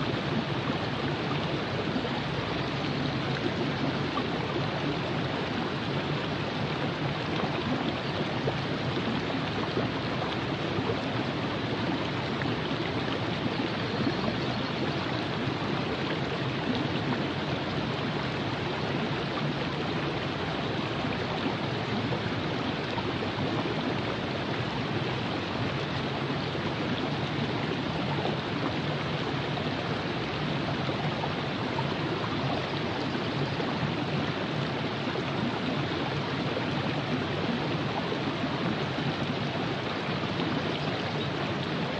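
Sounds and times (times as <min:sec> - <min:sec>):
river water flowing over rocks: 0:00.0 - 0:41.9.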